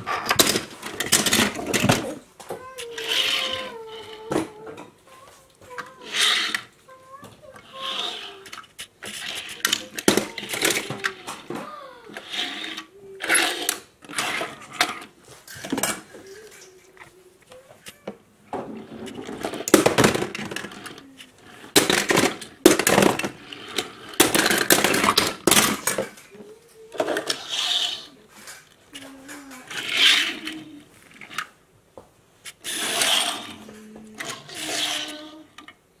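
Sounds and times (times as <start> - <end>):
metal toy cars clattering: 0.0 - 5.0, 5.7 - 6.7, 7.4 - 16.8, 18.6 - 31.5, 32.5 - 35.8.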